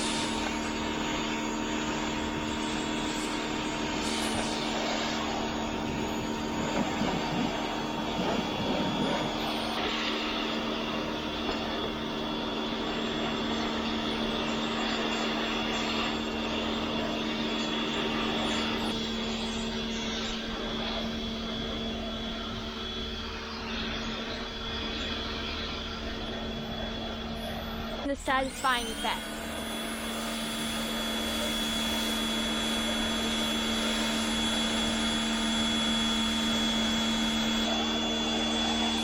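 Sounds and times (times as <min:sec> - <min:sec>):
pressure washer motor drone: 0:00.0 - 0:39.0.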